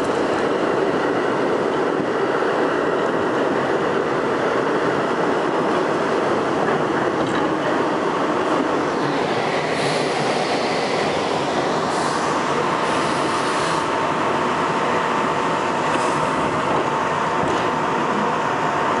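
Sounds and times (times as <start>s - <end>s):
subway wheels rumbling on rails: 0.0s - 19.0s.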